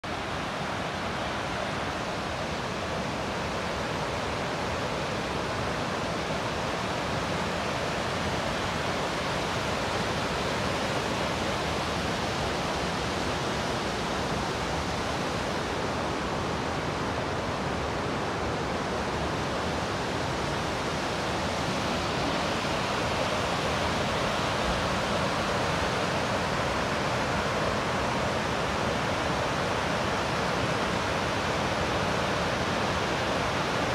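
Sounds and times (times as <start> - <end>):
waterfall and rushing stream: 0.0 - 33.9.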